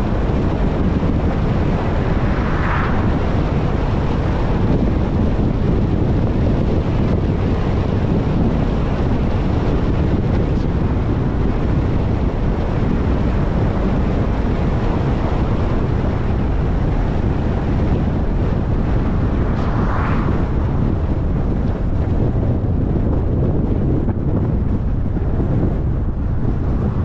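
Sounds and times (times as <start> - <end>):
wind buffeting microphone: 0.0 - 27.0
wind rush and road noise: 0.0 - 27.0.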